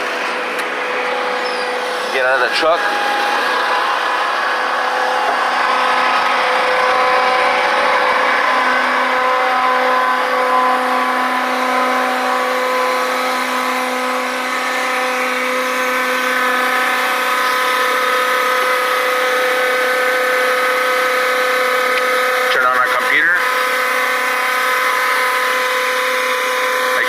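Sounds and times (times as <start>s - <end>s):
truck mechanical hum: 0.0s - 27.0s.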